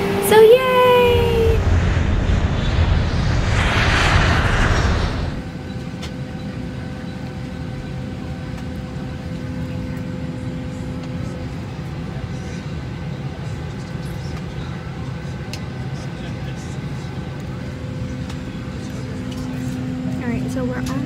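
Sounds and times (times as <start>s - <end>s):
airliner cabin low rumble: 0.0s - 21.0s.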